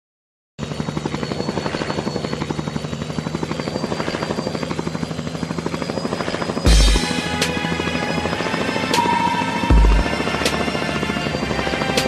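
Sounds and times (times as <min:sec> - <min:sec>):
helicopter engine hum: 0:00.6 - 0:12.0
helicopter rotor chop: 0:00.6 - 0:12.0
faint high whine: 0:00.7 - 0:12.0.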